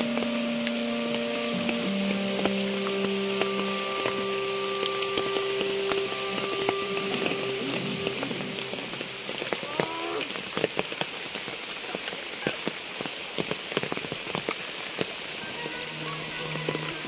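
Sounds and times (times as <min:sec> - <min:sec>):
heavy rain hiss: 0:00.0 - 0:17.0
raindrops tapping: 0:00.0 - 0:17.0.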